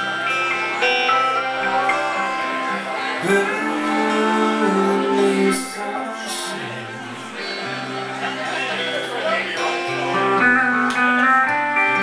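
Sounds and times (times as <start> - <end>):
acoustic guitar strumming: 0.0 - 12.0
electric guitar: 0.0 - 12.0.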